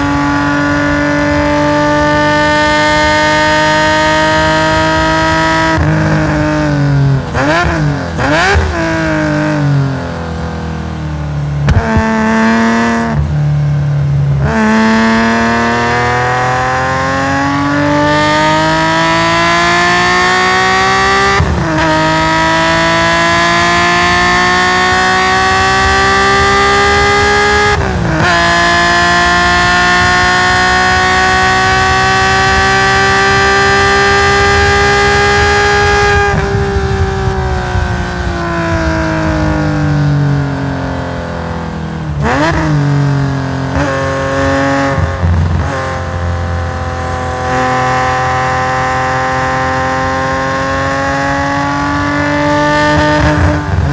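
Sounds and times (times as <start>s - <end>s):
car accelerating with gear shifts: 0.0s - 53.9s.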